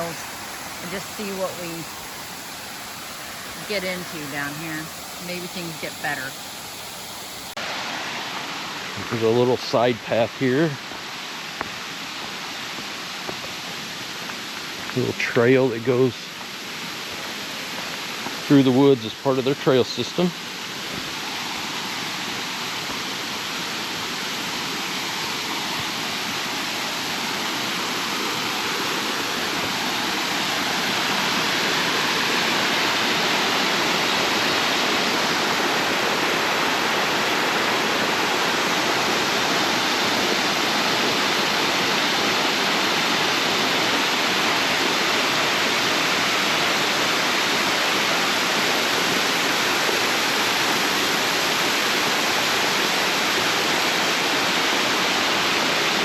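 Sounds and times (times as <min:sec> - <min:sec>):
water rushing over waterfall: 0:00.0 - 0:56.0.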